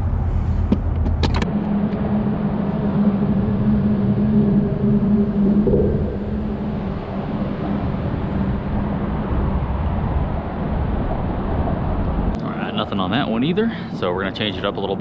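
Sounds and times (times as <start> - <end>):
low rumble: 0.0 - 13.4
engine hum: 0.0 - 15.0.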